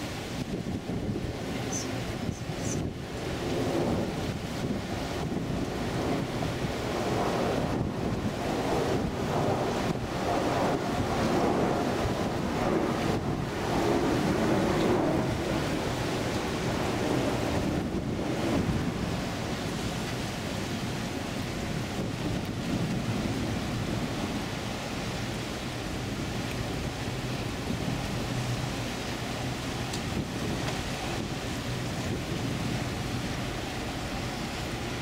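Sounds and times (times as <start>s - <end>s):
low ship engine hum: 0.0s - 35.0s
river water rushing: 0.0s - 35.0s
wind buffeting microphone: 0.0s - 35.0s.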